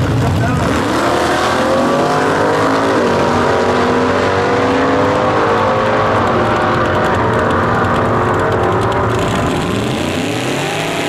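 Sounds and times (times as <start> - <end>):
drag car engines at full throttle: 0.0 - 11.0.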